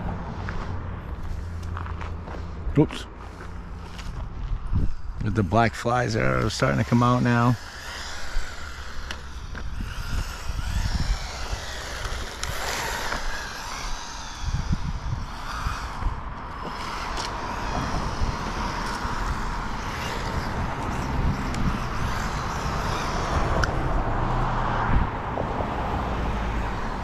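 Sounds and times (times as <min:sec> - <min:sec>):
electric motor whining: 0:00.0 - 0:27.0
tyres on rough asphalt: 0:00.0 - 0:27.0
wind rumbling on microphone: 0:00.0 - 0:27.0.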